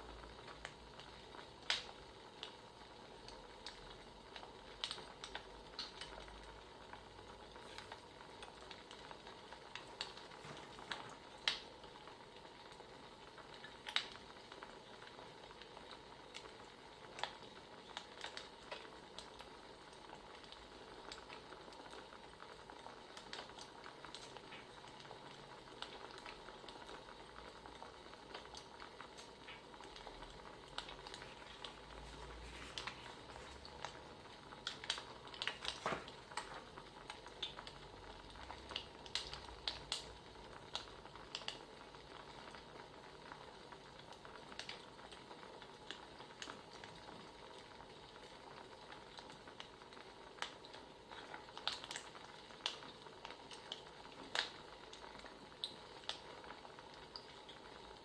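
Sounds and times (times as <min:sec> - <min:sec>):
soft steady hiss: 0:00.0 - 0:58.0
wood fire crackling: 0:00.0 - 0:58.0.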